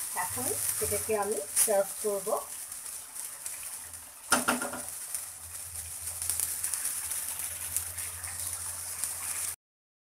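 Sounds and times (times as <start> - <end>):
curry sizzling in a frying pan: 0.0 - 9.6.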